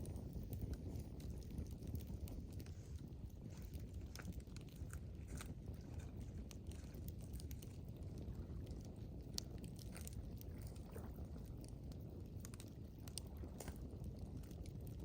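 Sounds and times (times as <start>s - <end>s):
campfire crackling: 0.0s - 15.0s
pops and snaps of burning wood: 0.0s - 15.0s.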